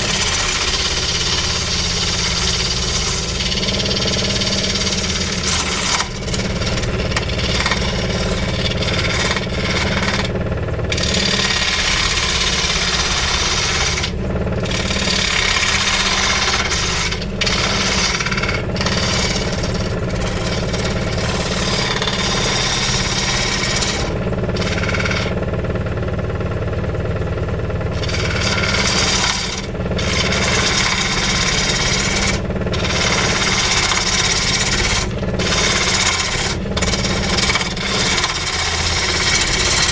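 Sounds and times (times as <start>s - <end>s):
power tool cutting wood: 0.0s - 39.9s.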